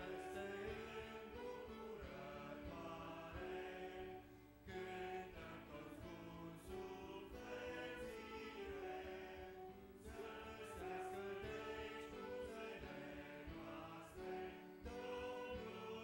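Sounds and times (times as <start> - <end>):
congregation singing a hymn: 0.0 - 16.0.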